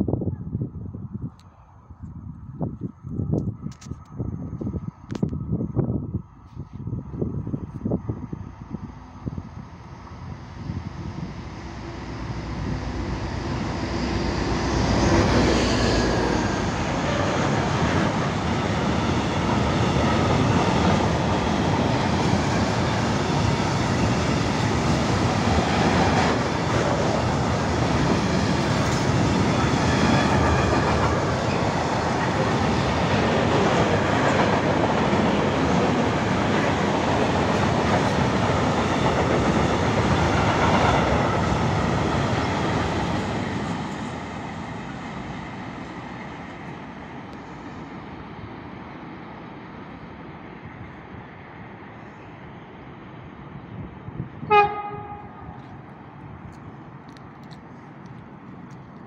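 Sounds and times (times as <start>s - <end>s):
freight train passing: 7.2s - 59.0s.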